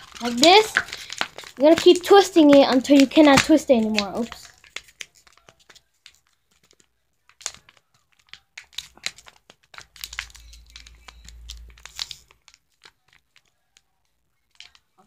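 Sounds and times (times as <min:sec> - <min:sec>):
plastic bottle crackling: 0:00.0 - 0:15.0.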